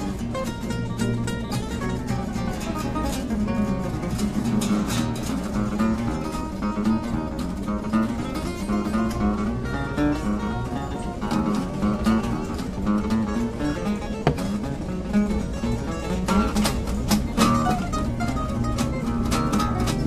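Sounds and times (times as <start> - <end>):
acoustic guitars playing: 0.0 - 20.0.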